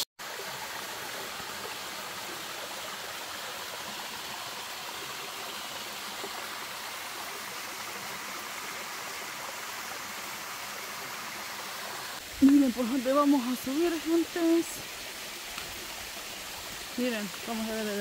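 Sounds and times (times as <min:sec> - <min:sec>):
waterfall rushing and splashing: 0:00.0 - 0:18.0.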